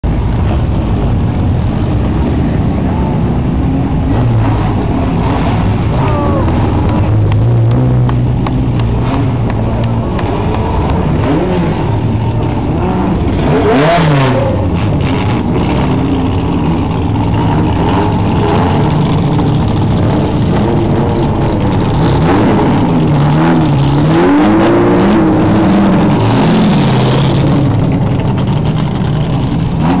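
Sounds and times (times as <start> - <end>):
racing car engines revving: 0.1 - 30.0.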